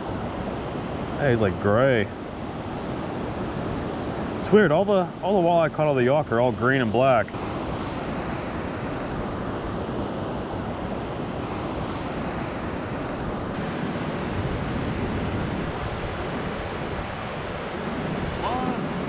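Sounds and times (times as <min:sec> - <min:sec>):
river water rushing: 0:00.0 - 0:19.0
wind: 0:00.0 - 0:19.0.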